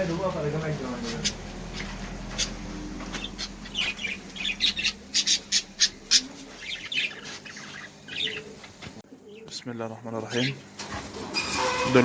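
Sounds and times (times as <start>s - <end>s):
steady low hum: 0.0s - 10.8s
birds chirping and squawking: 0.0s - 12.0s.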